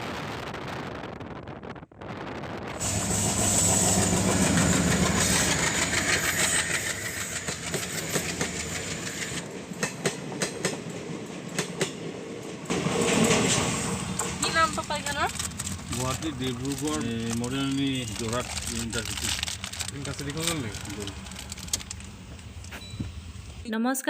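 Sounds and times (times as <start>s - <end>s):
train rushing on rails: 2.1s - 23.7s
wheels clacking over rail joints: 3.9s - 23.6s.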